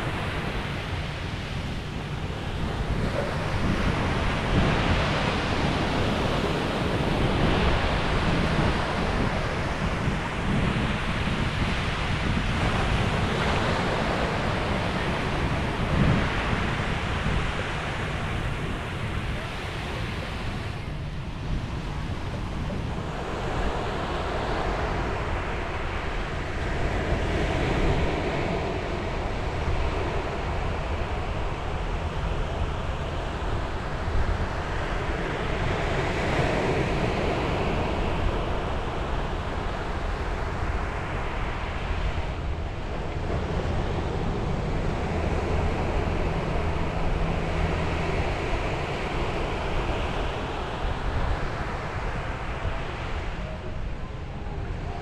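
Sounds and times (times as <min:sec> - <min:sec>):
ocean waves breaking on beach: 0:00.0 - 0:55.0
wind rumbling on microphone: 0:00.0 - 0:55.0.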